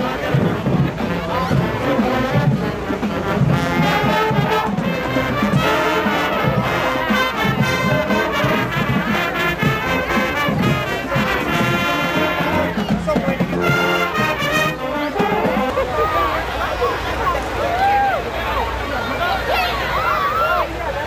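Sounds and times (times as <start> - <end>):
brass instruments playing melody: 0.0 - 17.6.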